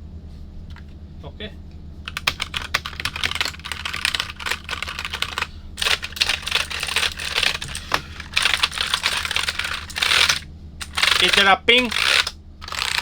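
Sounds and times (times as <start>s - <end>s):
fast keyboard typing: 2.1s - 13.0s.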